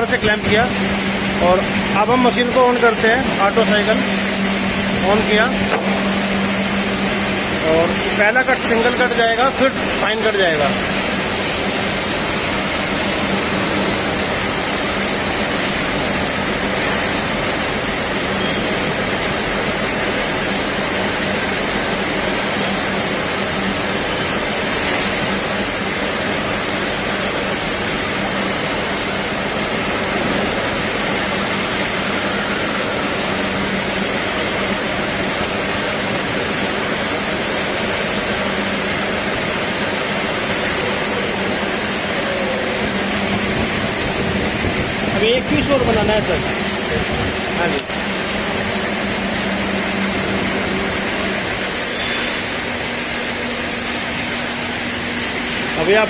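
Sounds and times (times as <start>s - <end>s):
lathe turning steel: 0.0s - 56.0s.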